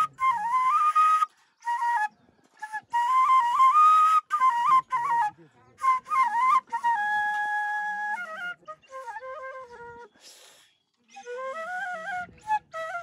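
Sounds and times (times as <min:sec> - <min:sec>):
solo flute melody: 0:00.0 - 0:10.4, 0:11.1 - 0:13.0.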